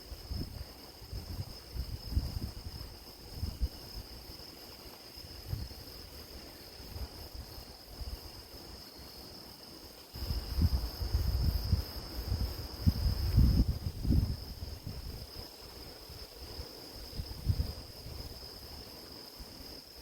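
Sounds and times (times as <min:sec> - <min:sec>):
wind rumbling on microphone: 0:00.0 - 0:08.9, 0:10.1 - 0:20.0.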